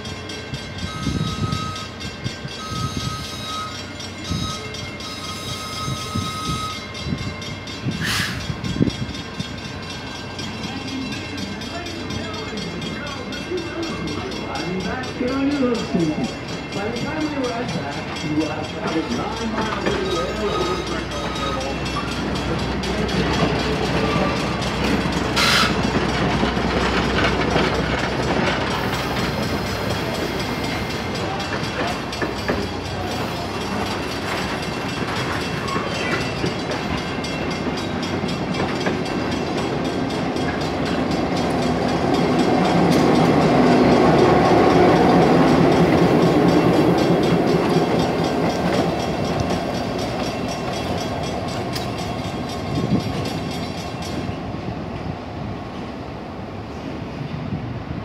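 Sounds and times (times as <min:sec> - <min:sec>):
diesel locomotive passing: 0:00.0 - 0:58.0
train wheels rumbling and clicking: 0:00.0 - 0:58.0.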